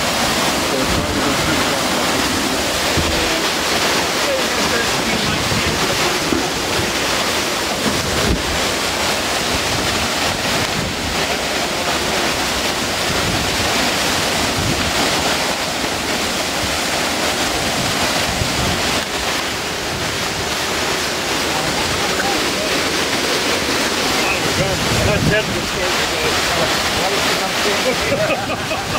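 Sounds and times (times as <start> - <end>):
strong wind buffeting microphone: 0.0 - 28.9.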